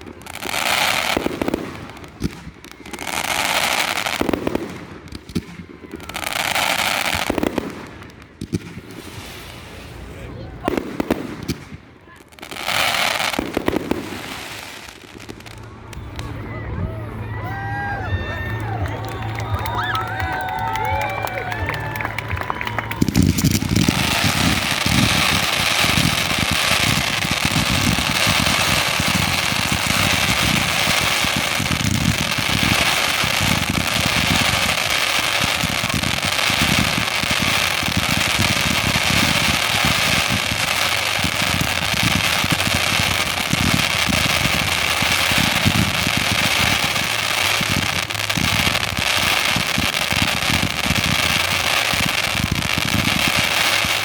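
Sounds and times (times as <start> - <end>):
fireworks barrage crackling: 0.0 - 54.0.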